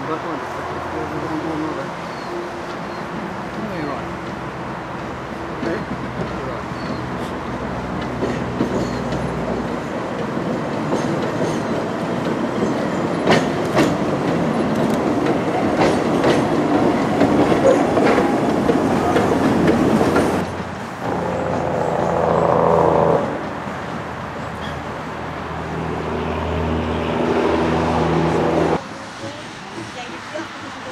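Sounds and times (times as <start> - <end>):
tram rolling on track: 0.0 - 30.9.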